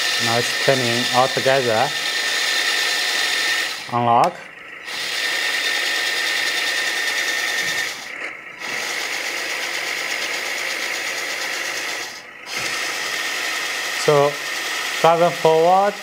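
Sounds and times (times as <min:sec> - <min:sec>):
toy motor and gears whining: 0:00.0 - 0:16.0.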